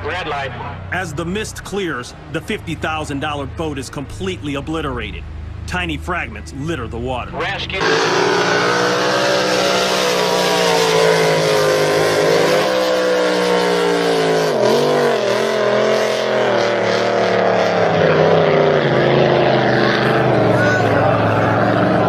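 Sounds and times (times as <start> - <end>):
high-revving boat engines: 0.0 - 22.0.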